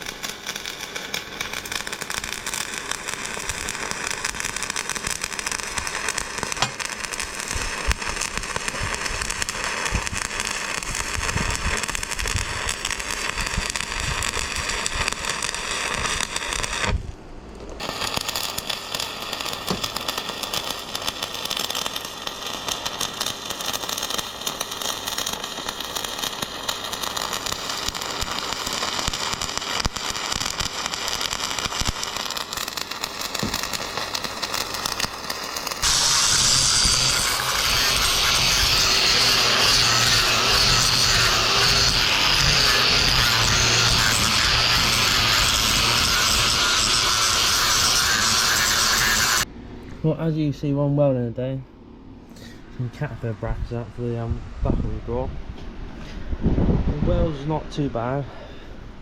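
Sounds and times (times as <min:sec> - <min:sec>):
welding arc crackling: 0:00.0 - 0:17.2, 0:17.8 - 0:49.5.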